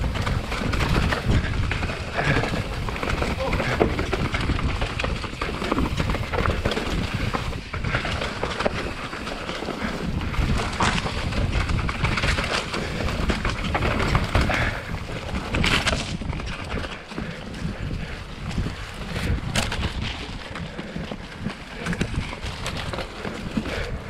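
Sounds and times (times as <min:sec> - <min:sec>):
bike rattling and knocking: 0:00.0 - 0:24.0
tyres rolling on dirt and leaves: 0:00.0 - 0:24.0
wind buffeting microphone: 0:00.0 - 0:24.0.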